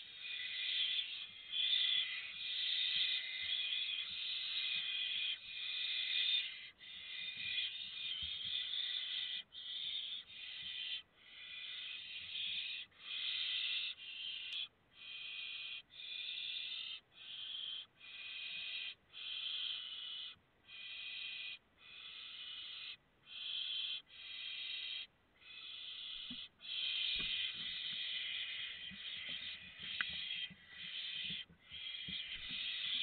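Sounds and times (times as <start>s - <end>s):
owl chicks hissing begging calls: 0.0s - 33.0s.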